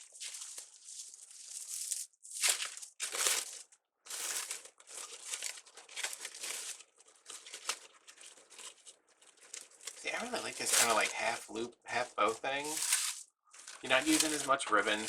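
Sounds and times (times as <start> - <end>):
stiff ribbon crinkling: 0.0 - 15.0.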